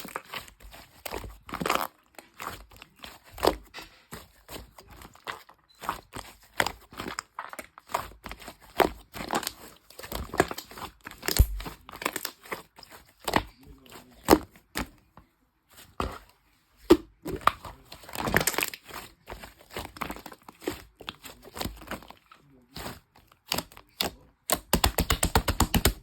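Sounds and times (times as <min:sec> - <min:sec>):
crinkling and tearing: 0:00.0 - 0:14.9, 0:17.7 - 0:26.0.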